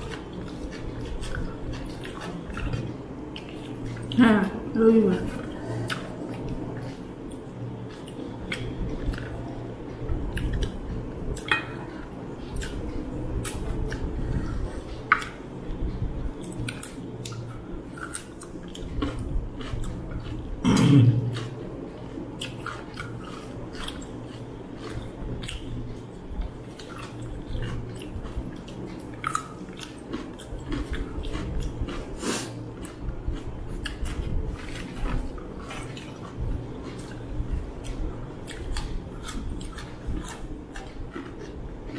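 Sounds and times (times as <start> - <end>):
chewing and mouth sounds: 0.0 - 41.9.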